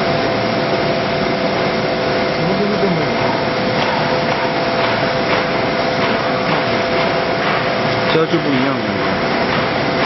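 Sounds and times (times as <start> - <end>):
machine whirring and humming: 0.0 - 10.0.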